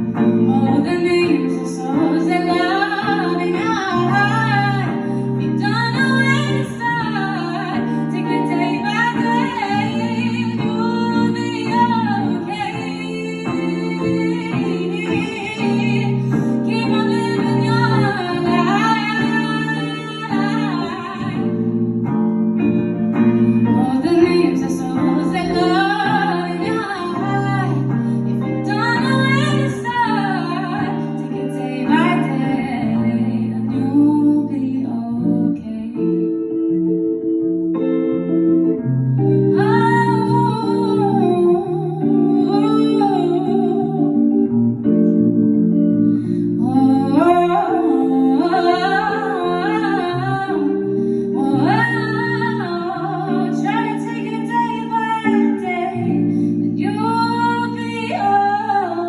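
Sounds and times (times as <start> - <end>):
guitar playing: 0.0 - 59.0
woman singing a slow song: 0.0 - 59.0.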